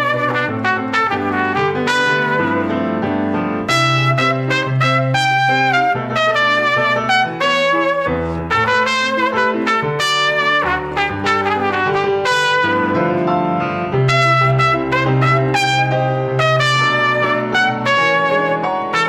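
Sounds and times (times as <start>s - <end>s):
trumpet melody: 0.0s - 19.0s
band music: 3.6s - 19.0s.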